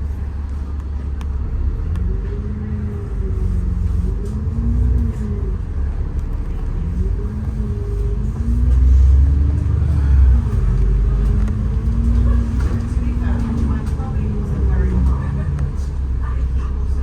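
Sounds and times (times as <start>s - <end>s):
bus drivetrain rumble: 0.0s - 17.0s.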